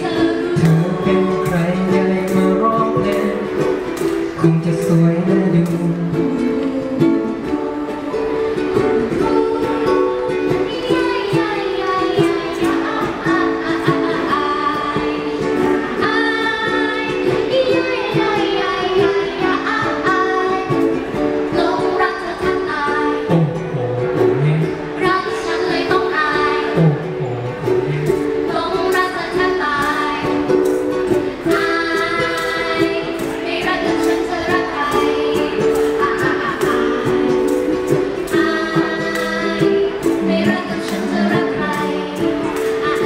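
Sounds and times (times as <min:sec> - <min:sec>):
woman singing: 0:00.0 - 0:23.6, 0:25.0 - 0:27.1, 0:28.0 - 0:43.0
lower voice singing: 0:00.0 - 0:43.0
ukuleles strumming chords: 0:00.0 - 0:43.0.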